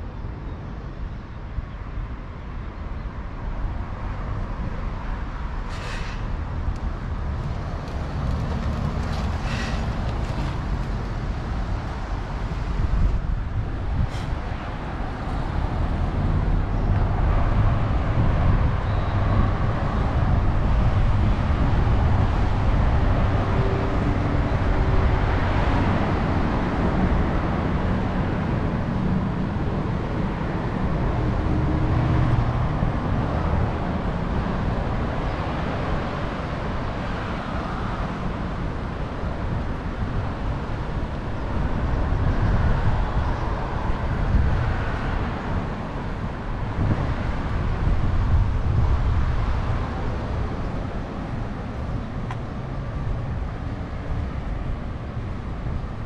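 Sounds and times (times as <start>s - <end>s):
cars passing: 1.9s - 56.0s.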